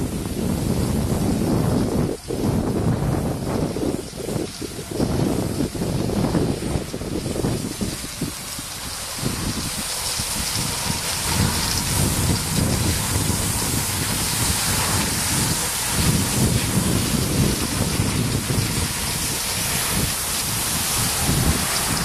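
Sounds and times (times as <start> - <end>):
skis gliding on snow: 0.0 - 22.0
wind buffeting microphone: 0.0 - 22.0.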